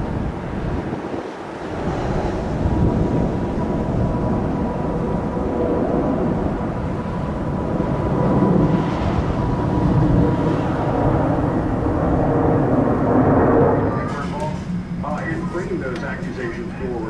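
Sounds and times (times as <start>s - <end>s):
jet engines deep rumble: 0.0s - 17.0s
thin steady whine: 0.0s - 17.0s.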